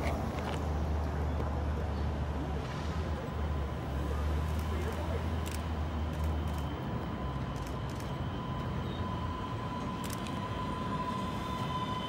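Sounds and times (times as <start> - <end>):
train wheels rumbling on rails: 0.0 - 12.0
train whine: 0.0 - 12.0.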